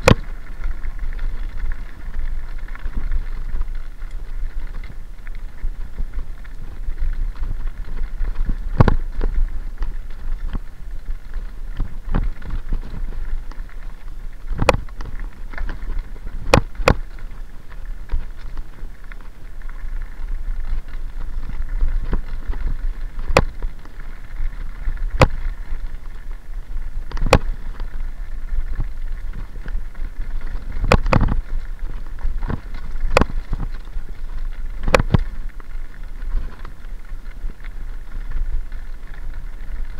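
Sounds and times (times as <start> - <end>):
bike tyres rumbling on gravel: 0.0 - 39.9
wind on microphone: 0.0 - 39.9.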